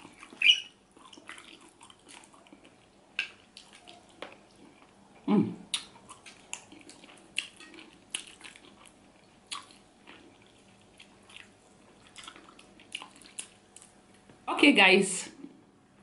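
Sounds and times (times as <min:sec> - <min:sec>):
lip smacks and chewing: 0:00.0 - 0:05.0, 0:05.7 - 0:14.3.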